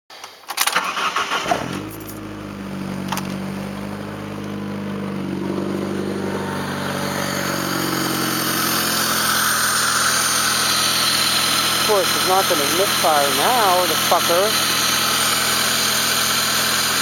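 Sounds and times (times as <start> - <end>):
car engine cranking and idling: 0.2 - 17.0.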